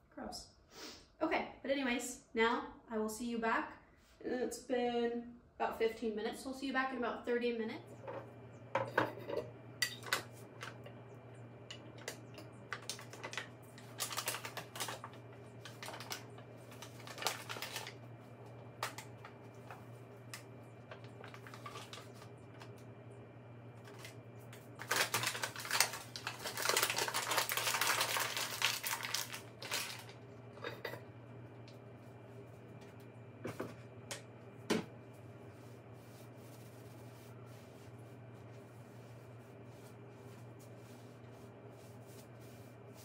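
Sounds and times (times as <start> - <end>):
steady low hum: 4.2 - 43.0.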